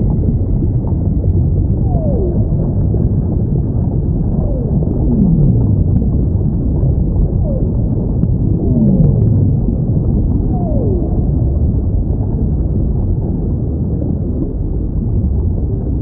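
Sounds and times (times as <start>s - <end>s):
low underwater rumble: 0.0s - 16.0s.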